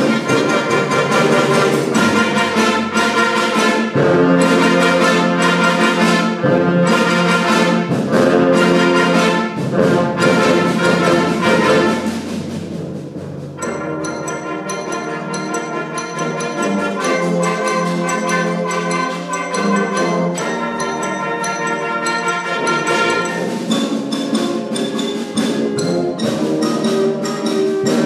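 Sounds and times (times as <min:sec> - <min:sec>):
concert band playing: 0:00.0 - 0:28.0.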